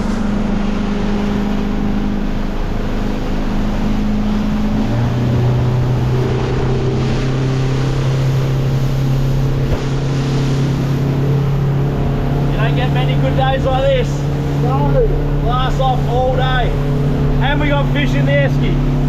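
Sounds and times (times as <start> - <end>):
motorboat engine running: 0.0 - 19.0
water noise: 0.0 - 19.0
wind: 0.0 - 19.0.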